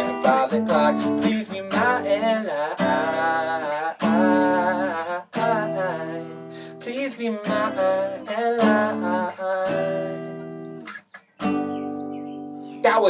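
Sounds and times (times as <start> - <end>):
man singing long notes: 0.0 - 10.5
acoustic guitar strumming chords: 0.0 - 13.0.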